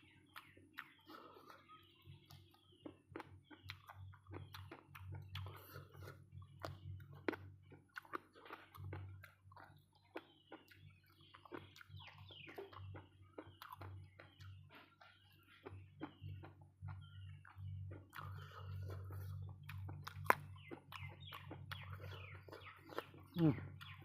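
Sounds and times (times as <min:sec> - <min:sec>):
person chewing and lip smacking: 0:00.0 - 0:24.0.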